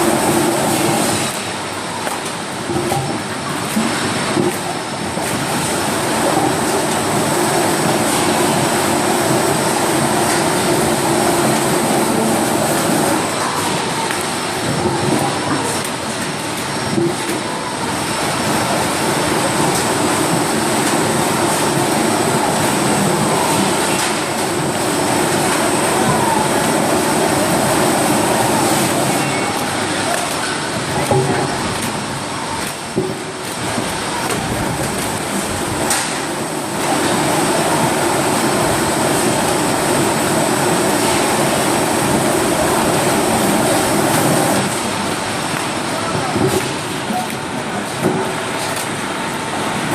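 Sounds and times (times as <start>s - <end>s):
lathe mechanical rumble: 0.0s - 49.9s.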